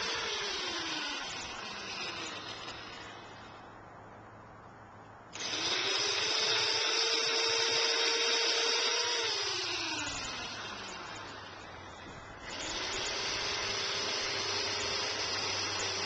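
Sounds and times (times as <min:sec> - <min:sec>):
chainsaw revving: 0:00.0 - 0:03.6, 0:05.4 - 0:16.0.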